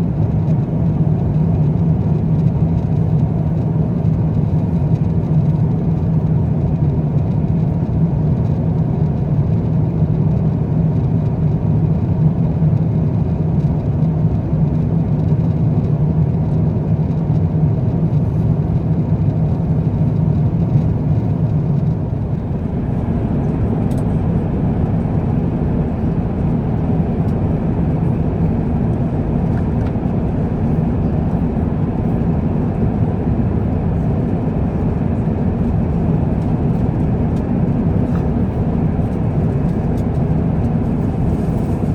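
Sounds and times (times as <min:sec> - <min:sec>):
airliner cabin drone: 0:00.0 - 0:41.9.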